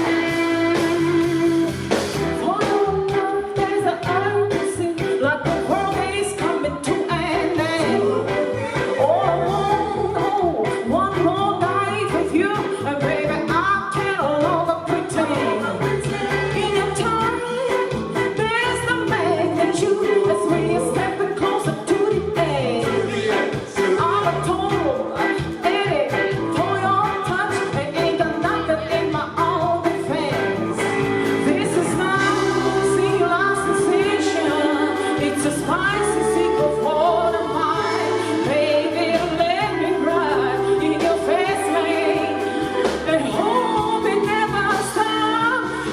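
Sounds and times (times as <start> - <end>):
drums steady beat: 0.0 - 45.9
live blues band: 0.0 - 45.9
person singing: 2.4 - 45.9.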